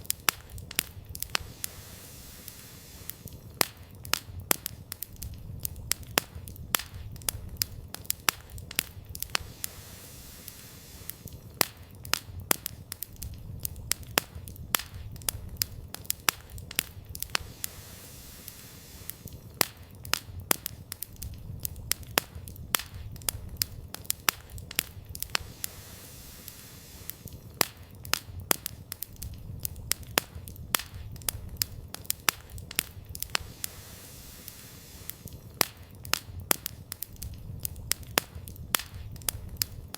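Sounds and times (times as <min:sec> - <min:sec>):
campfire crackling: 0:00.0 - 0:39.9
low rumble of flames: 0:00.0 - 0:39.9
sharp pops and snaps of fire: 0:00.0 - 0:39.9.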